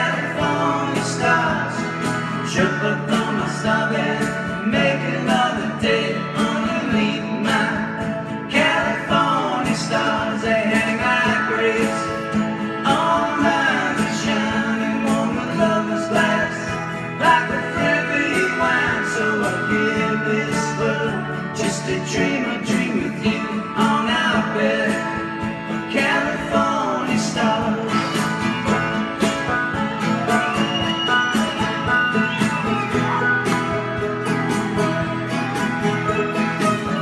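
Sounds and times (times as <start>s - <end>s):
banjo: 0.0s - 37.0s
drums: 0.0s - 37.0s
lap steel guitar gliding notes: 0.0s - 37.0s
strummed acoustic guitars: 0.0s - 37.0s.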